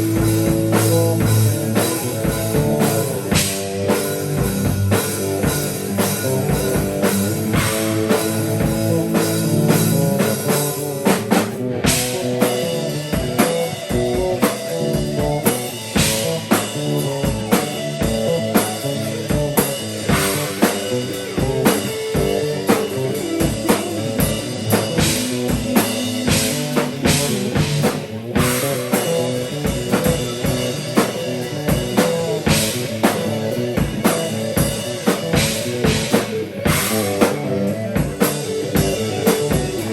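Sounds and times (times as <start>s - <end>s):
drum kit beat: 0.0s - 39.9s
live band playing: 0.0s - 39.9s.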